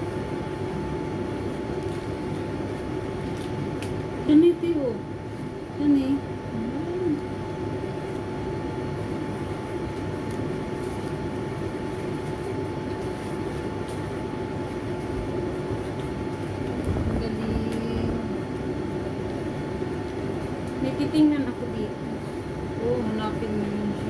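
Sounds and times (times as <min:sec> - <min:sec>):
thin constant whine: 0:00.0 - 0:24.0.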